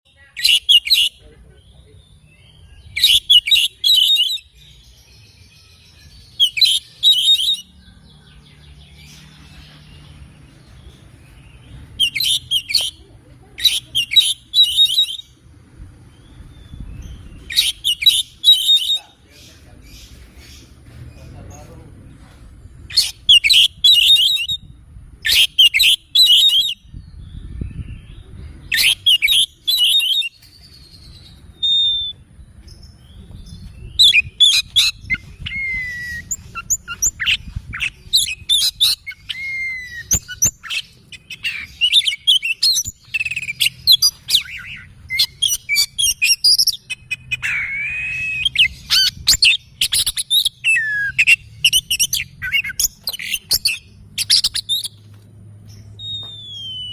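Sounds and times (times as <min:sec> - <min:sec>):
bird singing whistles and chatter: 0:00.1 - 0:15.4, 0:16.2 - 0:22.2, 0:22.8 - 0:55.0, 0:55.7 - 0:56.9.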